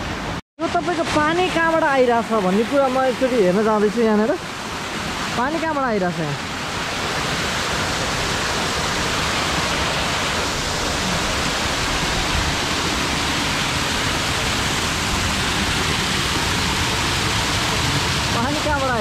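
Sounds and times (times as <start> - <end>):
small waterfall splashing: 0.6 - 19.0.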